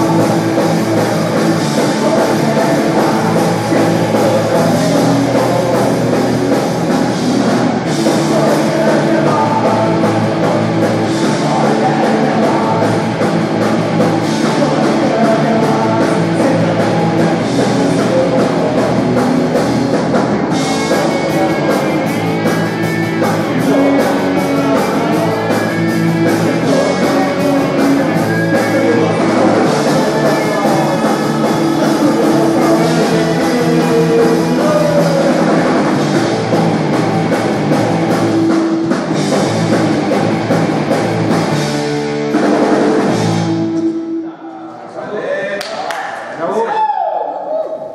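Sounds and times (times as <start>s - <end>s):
lead singer: 0.0s - 39.7s
rock band playing: 0.0s - 44.3s.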